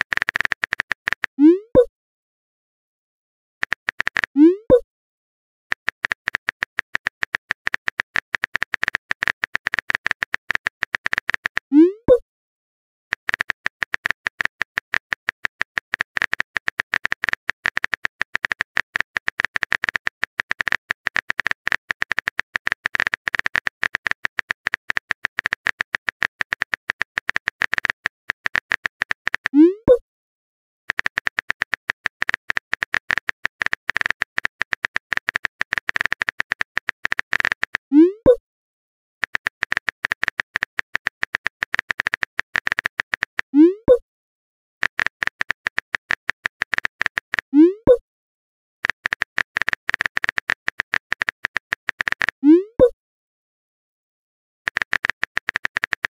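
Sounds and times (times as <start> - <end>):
phone keyboard clicks: 3.6 - 4.8, 5.7 - 12.2, 13.1 - 30.0, 30.9 - 38.4, 39.2 - 44.0, 44.8 - 48.0, 48.8 - 53.0, 54.7 - 56.0.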